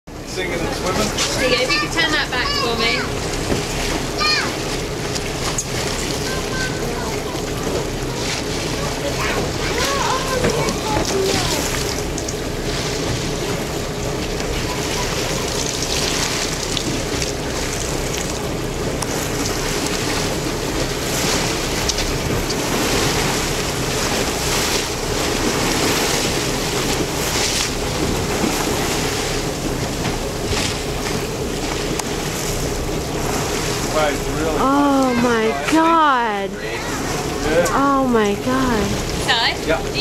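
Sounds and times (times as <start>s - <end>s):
choppy sea water: 0.1s - 40.0s.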